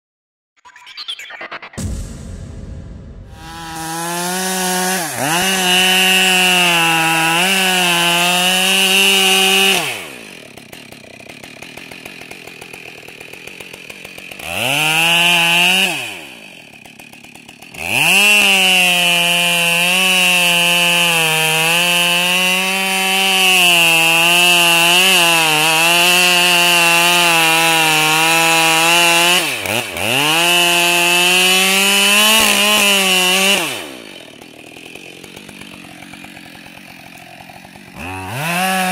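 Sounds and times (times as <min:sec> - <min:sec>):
chainsaw cutting wood: 0:03.4 - 0:38.9.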